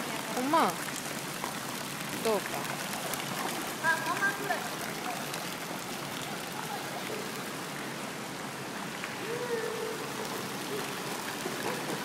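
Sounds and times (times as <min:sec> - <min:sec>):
fountain water splashing into pool: 0:00.0 - 0:12.0.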